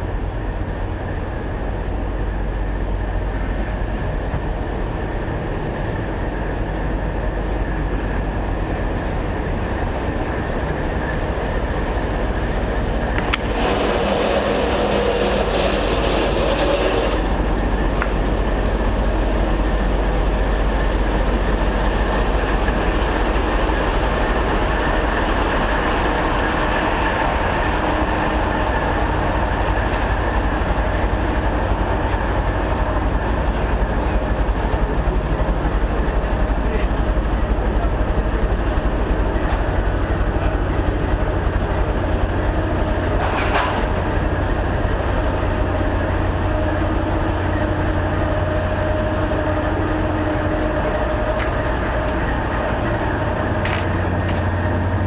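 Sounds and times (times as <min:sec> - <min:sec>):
train rumbling on rails: 0:00.0 - 0:55.0
train wheel clatter: 0:05.7 - 0:55.0.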